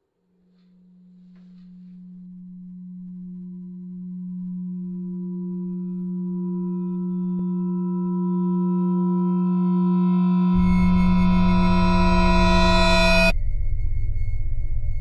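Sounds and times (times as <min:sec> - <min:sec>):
low horror score drone: 0:00.9 - 0:15.0.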